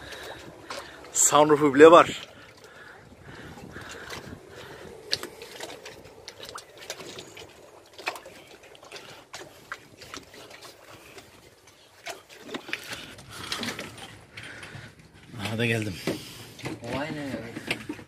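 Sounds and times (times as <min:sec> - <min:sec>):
water sloshing against boat hull: 0:00.0 - 0:18.0.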